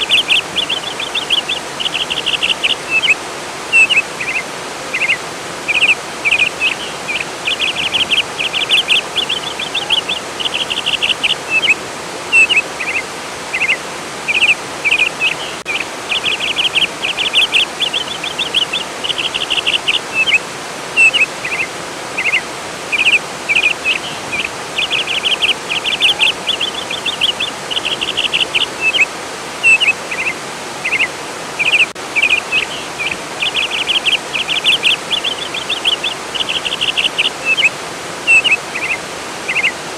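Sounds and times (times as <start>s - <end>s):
songbird trilling: 0.0s - 20.4s, 21.0s - 37.7s, 38.3s - 39.7s
flowing water rushing: 0.0s - 39.9s.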